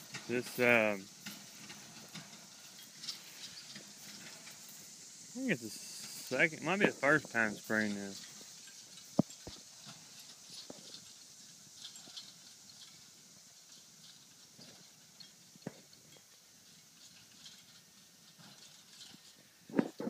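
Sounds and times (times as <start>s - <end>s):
faint high hiss: 0.0s - 20.0s
soft ticks and rustles: 0.0s - 20.0s.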